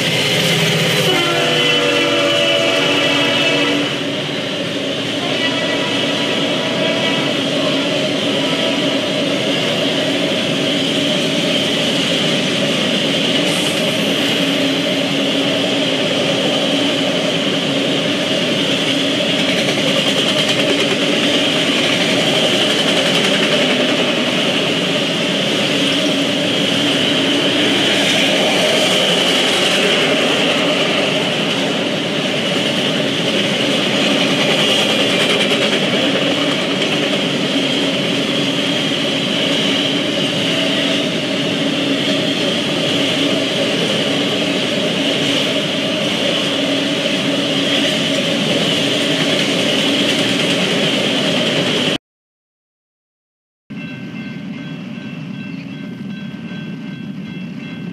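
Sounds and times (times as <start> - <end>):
freight train wheels on rails: 0.0 - 52.0, 53.7 - 57.9.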